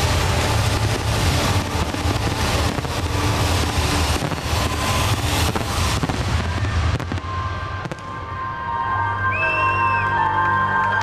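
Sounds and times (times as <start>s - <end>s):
continuous low rumble: 0.0s - 11.0s
fireworks crackling and bursting: 0.0s - 11.0s.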